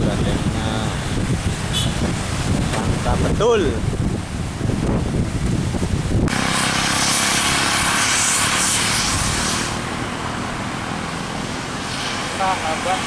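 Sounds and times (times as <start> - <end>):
wind buffeting microphone: 0.0 - 12.1
diesel truck passing: 0.0 - 13.0.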